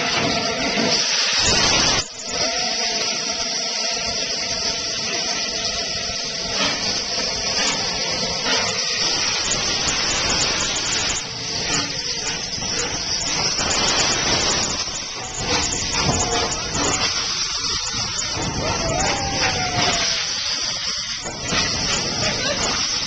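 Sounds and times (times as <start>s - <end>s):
steam locomotive hissing: 0.0s - 23.0s
faint steady tones: 1.4s - 23.0s.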